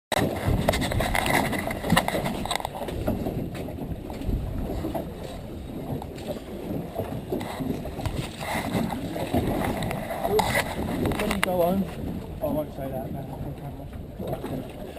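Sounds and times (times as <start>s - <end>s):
wind and water against hull: 0.1s - 14.9s.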